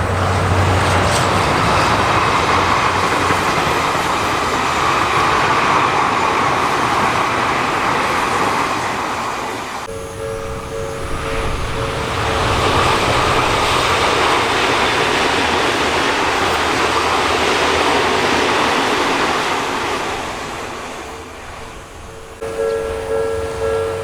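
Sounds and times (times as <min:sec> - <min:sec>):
level crossing warning bell: 0:00.0 - 0:24.0
train wheels rumbling on rails: 0:00.0 - 0:24.0.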